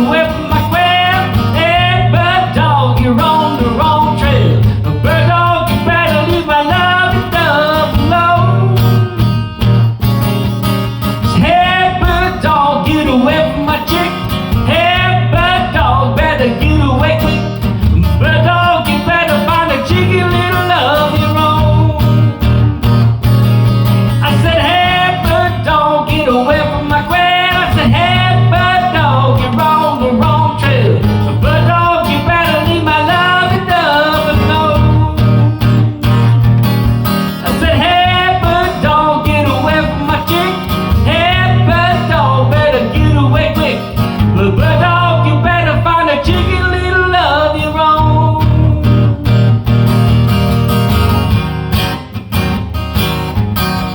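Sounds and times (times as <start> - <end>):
person singing: 0.0 - 9.4, 11.3 - 22.4, 24.2 - 36.4, 37.4 - 49.6
guitar accompaniment: 0.0 - 53.9.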